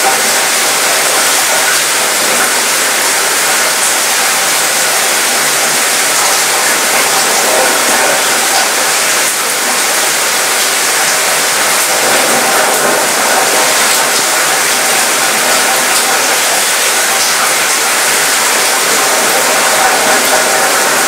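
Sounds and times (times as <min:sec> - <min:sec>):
rain on metal balcony: 0:00.0 - 0:21.0.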